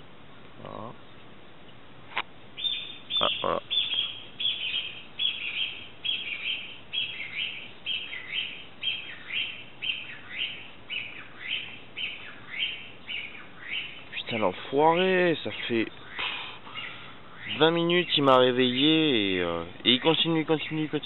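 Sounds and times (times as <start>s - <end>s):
bird calling: 2.6s - 21.0s.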